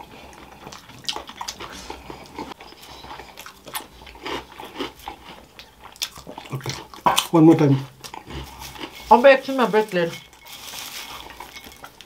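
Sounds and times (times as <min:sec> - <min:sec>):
chewing crunchy crisps: 0:00.0 - 0:12.0.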